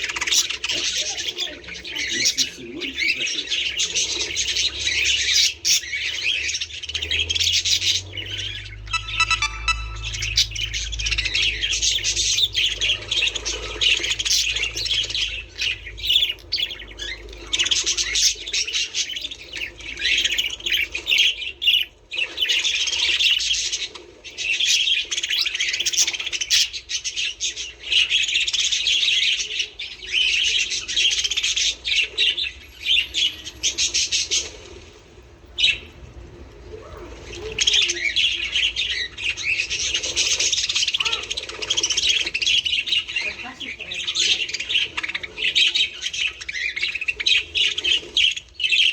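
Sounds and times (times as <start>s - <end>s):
budgerigars chattering and warbling: 0.0s - 48.9s.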